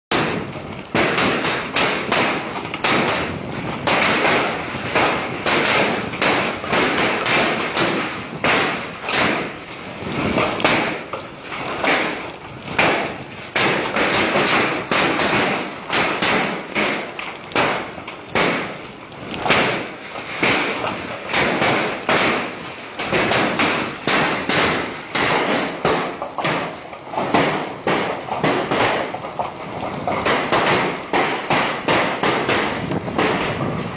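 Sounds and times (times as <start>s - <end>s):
hailstones clattering: 0.1s - 33.9s.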